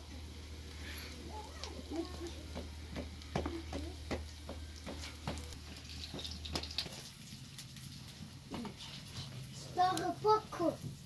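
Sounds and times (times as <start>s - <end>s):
potatoes frying in oil: 0.0s - 11.0s.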